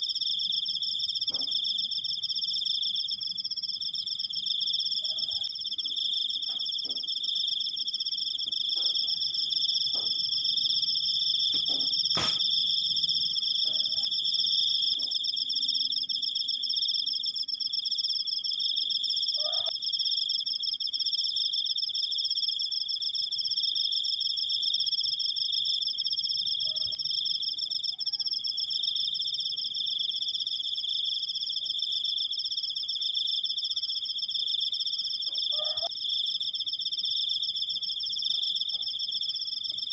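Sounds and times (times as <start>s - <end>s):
cricket trilling: 0.0s - 39.9s.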